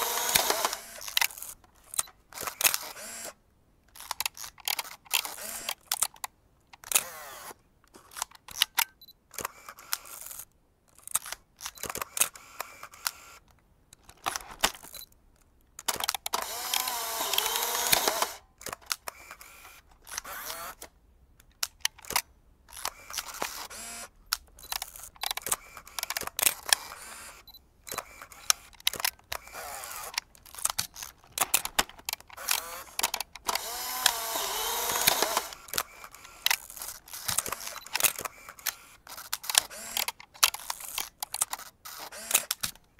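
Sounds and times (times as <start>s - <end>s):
camera mechanism whirring: 0.0s - 3.4s, 4.0s - 6.1s, 6.8s - 10.5s, 11.1s - 13.5s, 15.8s - 21.0s, 21.7s - 42.8s
camera shutter and lever clicks: 0.0s - 42.9s.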